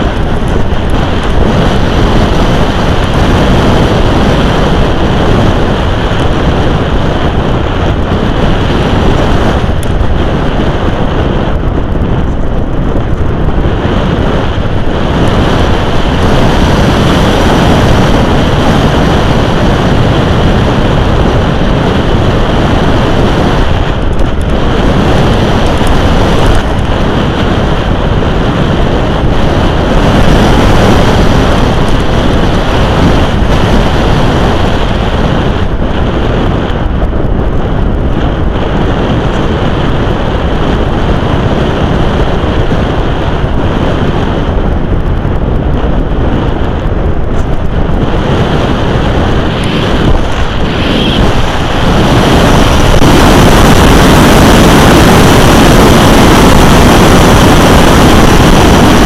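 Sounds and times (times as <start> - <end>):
air rushing over camera: 0.0 - 59.0.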